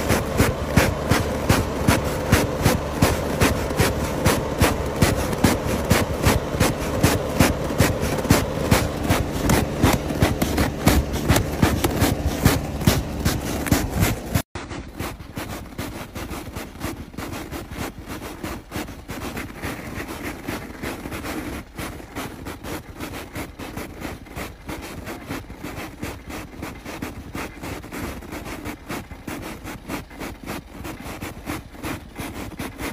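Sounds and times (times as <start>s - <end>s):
car engine running: 0.0s - 32.8s
snow crust crackling: 0.0s - 32.9s.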